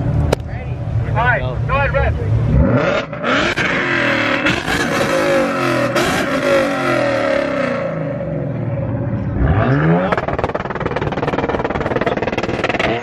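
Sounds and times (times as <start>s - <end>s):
car engine revving: 0.9s - 13.0s.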